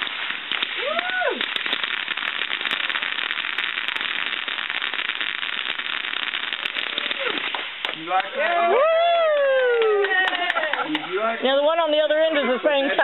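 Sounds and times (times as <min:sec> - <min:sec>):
firework fountain crackling: 0:00.0 - 0:13.0.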